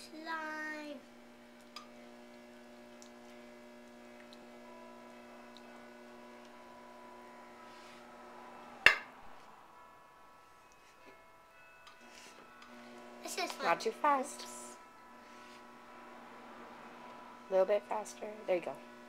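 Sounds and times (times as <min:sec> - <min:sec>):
potter's wheel motor humming: 0:00.0 - 0:09.4, 0:12.0 - 0:19.0.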